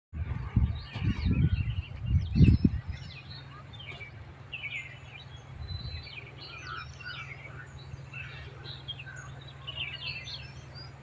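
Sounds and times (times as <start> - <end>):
birds chirping: 0.2 - 11.0
steady low hum: 0.2 - 11.0.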